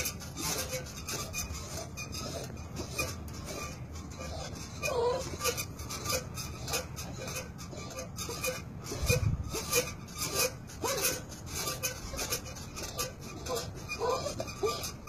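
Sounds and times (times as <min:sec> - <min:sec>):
rope rasping on wooden post: 0:00.0 - 0:15.0.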